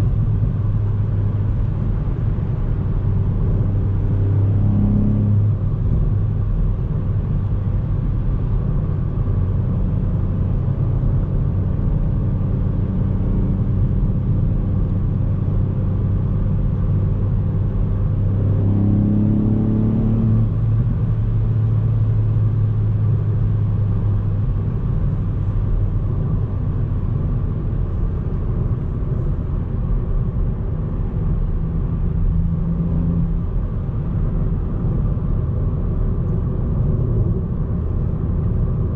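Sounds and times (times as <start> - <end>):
car engine cruising: 0.0 - 38.9
road rumble: 0.0 - 38.9.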